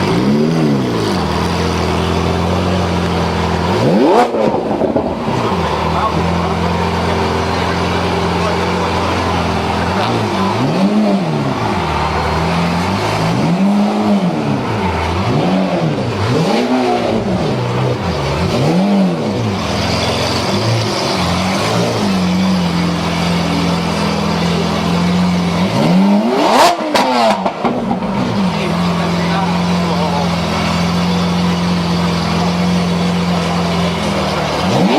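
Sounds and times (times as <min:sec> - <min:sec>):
car engine idling: 0:00.0 - 0:34.9
car engine revving: 0:00.0 - 0:34.9
exhaust cracks: 0:00.0 - 0:34.9.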